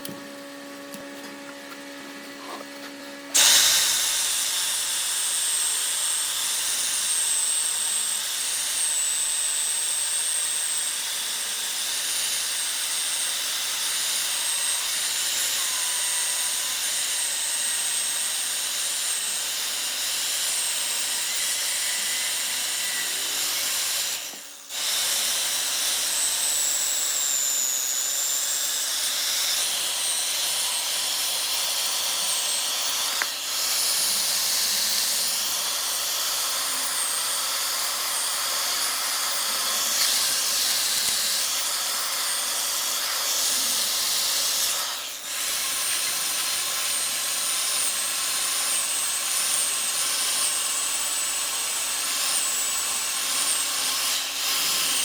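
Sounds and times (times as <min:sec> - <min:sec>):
wood lathe cutting hiss: 0:02.8 - 0:55.0.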